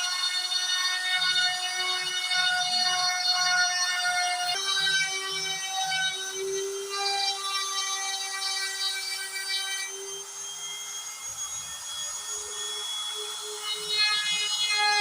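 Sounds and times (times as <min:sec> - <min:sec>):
cnc router motors whining: 0:00.0 - 0:15.0.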